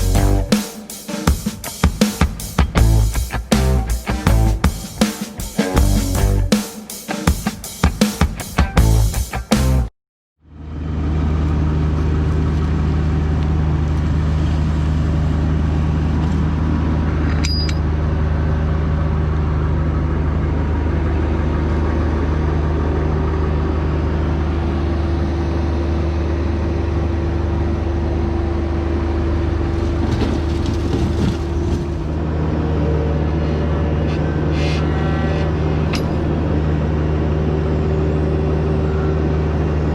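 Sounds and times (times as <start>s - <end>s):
diesel engine running: 0.0s - 0.5s, 2.7s - 5.0s, 5.6s - 6.5s, 8.8s - 9.9s, 10.5s - 17.3s, 17.9s - 39.9s.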